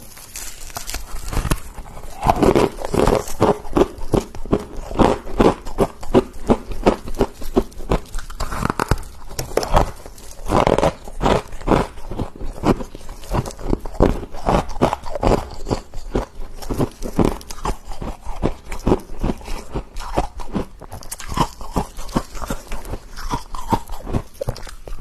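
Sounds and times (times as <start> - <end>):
freezer frost crunching: 0.0 - 25.0.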